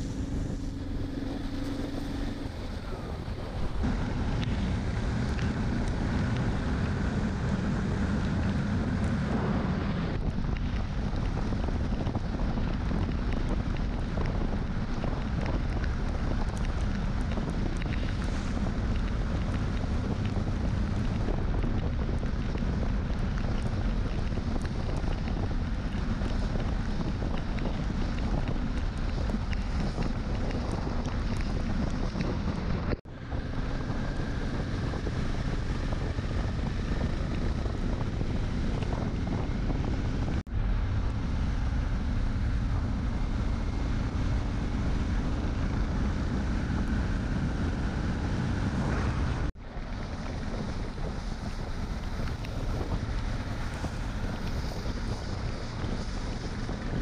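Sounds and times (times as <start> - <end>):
motorcycle running noise: 0.0 - 57.0
wind buffeting microphone: 0.0 - 57.0.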